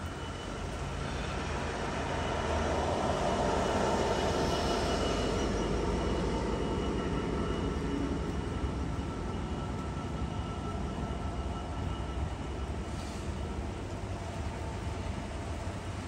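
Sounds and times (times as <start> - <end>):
diesel locomotive passing: 0.0 - 16.0
train wheels on rails: 0.0 - 16.0.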